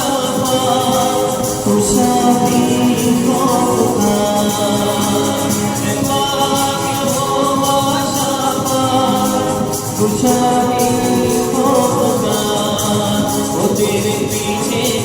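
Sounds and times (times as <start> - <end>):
instrumental accompaniment: 0.0 - 15.0
steady percussion beat: 0.0 - 15.0
voices singing held notes: 0.0 - 15.0.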